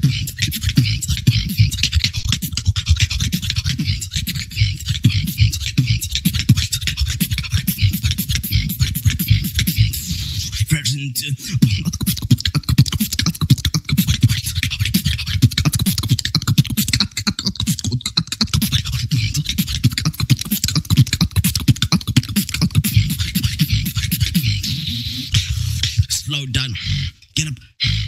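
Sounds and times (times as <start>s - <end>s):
person beatboxing: 0.0s - 28.0s.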